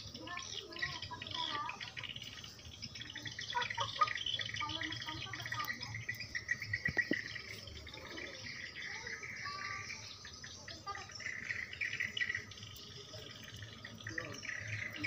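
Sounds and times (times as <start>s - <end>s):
birds chirping: 0.0s - 15.0s
insects trilling: 0.0s - 15.0s.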